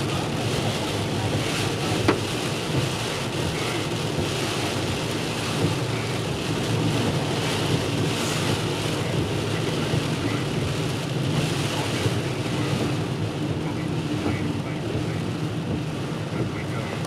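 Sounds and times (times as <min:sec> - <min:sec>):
rain on car: 0:00.0 - 0:17.0
road and engine rumble: 0:00.0 - 0:17.0
tyres hissing on wet road: 0:00.0 - 0:17.0.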